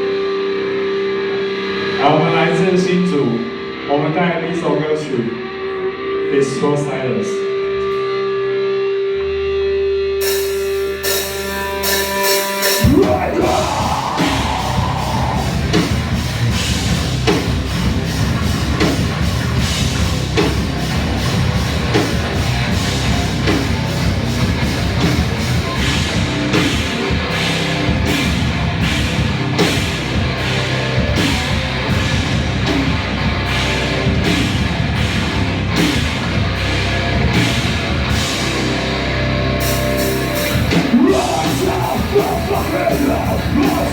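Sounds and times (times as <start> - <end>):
live rock band playing: 0.0 - 6.4, 7.1 - 43.9.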